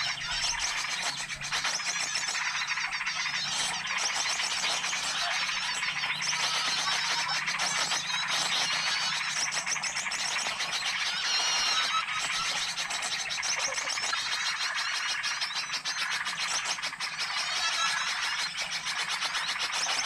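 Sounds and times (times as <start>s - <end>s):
small birds chirping chorus: 0.0s - 20.0s.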